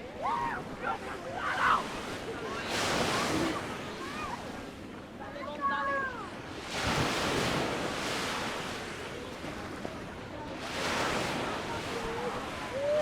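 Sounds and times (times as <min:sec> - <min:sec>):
sea waves breaking on a beach: 0:00.0 - 0:13.0.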